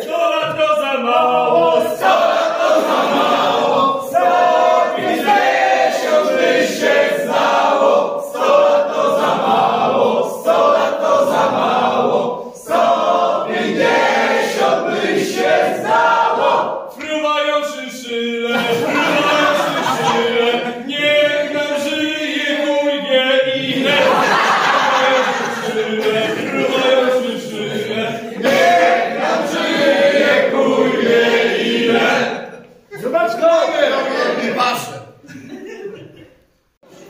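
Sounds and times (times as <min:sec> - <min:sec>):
group singing unaccompanied: 0:00.0 - 0:32.8.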